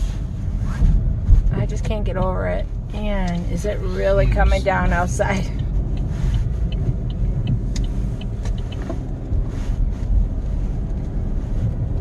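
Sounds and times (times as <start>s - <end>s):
car interior engine and road noise: 0.0s - 12.0s.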